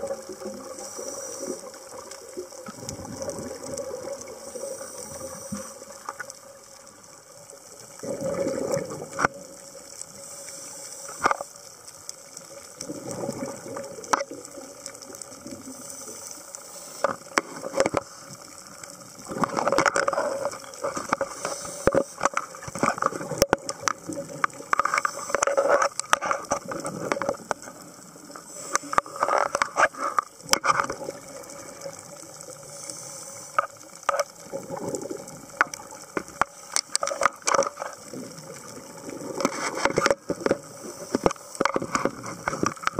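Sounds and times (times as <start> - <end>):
exhaled bubbles underwater: 0.0 - 10.2, 12.5 - 16.2, 17.3 - 29.7, 30.3 - 32.9, 33.8 - 42.9.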